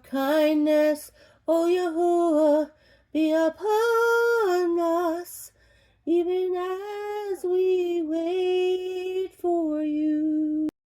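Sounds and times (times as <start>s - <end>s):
woman singing a slow psalm: 0.0s - 10.8s.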